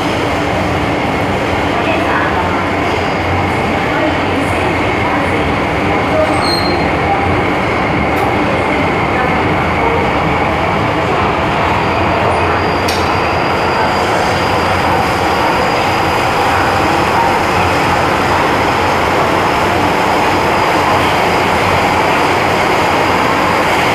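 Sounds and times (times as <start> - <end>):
train wheel and rail rumble: 0.0 - 23.9.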